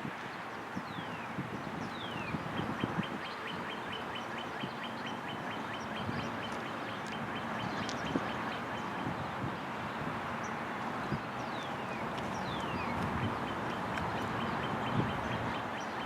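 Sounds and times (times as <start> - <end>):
birds chirping: 0.3 - 16.0.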